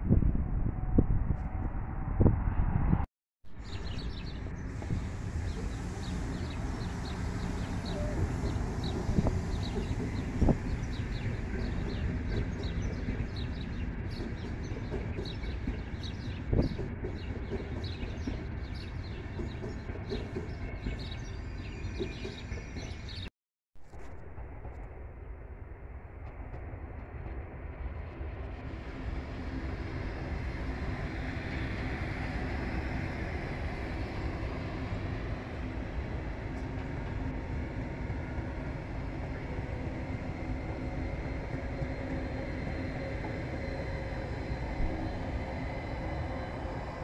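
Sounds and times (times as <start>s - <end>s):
train rumbling on track: 0.0s - 23.3s, 24.0s - 47.0s.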